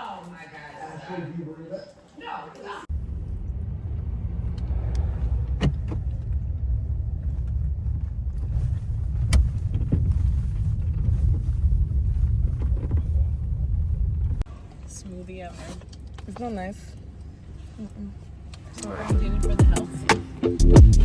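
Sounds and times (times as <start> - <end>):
low road rumble: 2.8 - 21.0.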